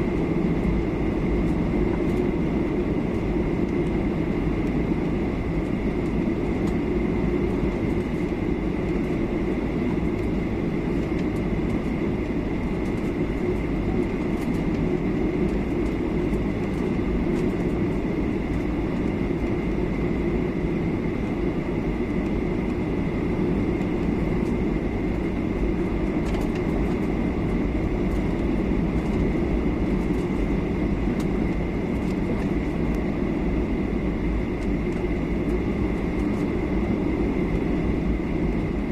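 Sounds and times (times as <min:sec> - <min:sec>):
airplane engines and airflow rumble: 0:00.0 - 0:38.9.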